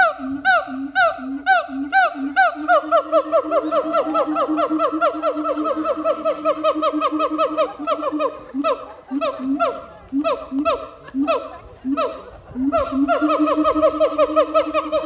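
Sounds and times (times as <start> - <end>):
siamang whooping calls: 0.0 - 15.0.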